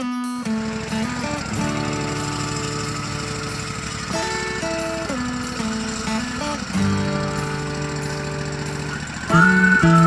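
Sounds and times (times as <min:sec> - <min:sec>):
song with guitar: 0:00.0 - 0:10.0
engine running with fast pulse: 0:00.4 - 0:10.0.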